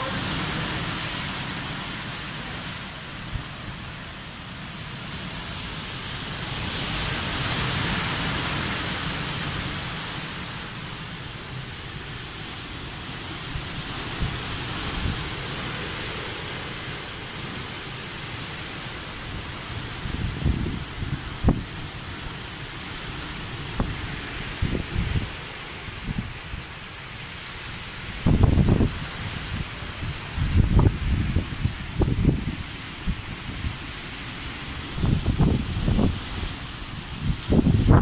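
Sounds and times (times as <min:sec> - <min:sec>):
heavy rain and wind: 0:00.0 - 0:38.0.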